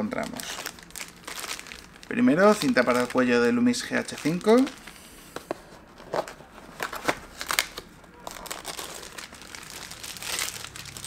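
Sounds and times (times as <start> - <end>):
plastic bags crinkling: 0.0 - 5.0, 6.0 - 11.0.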